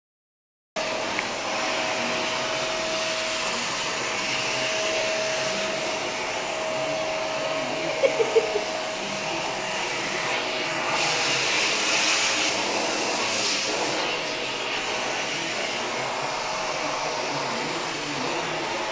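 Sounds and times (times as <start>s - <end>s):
vacuum cleaner running: 0.8s - 18.9s.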